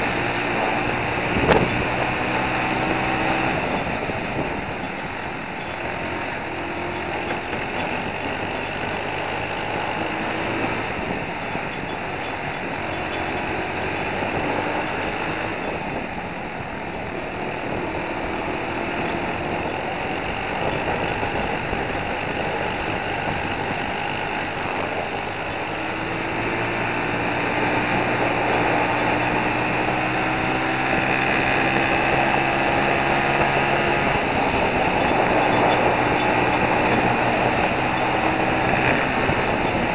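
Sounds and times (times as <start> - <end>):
kart engine at race speed: 0.0 - 39.9
wind rush on microphone: 0.0 - 39.9.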